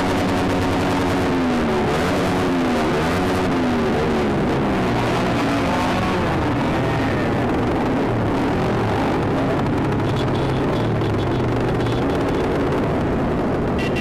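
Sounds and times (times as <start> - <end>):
motorcycles revving: 0.0 - 14.0.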